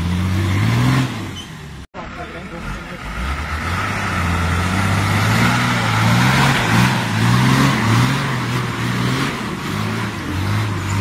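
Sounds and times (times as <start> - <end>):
diesel engine labouring: 0.0 - 11.0.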